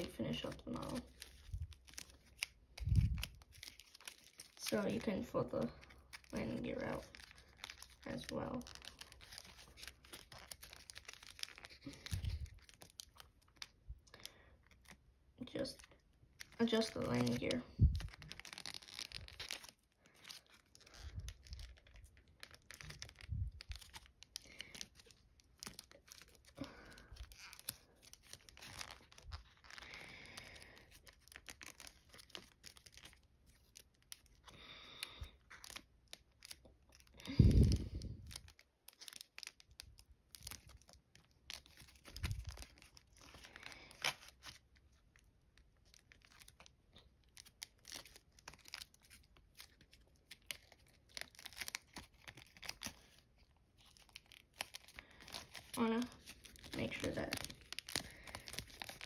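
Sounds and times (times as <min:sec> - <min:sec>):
metallic foil crinkling: 0:00.0 - 0:59.0.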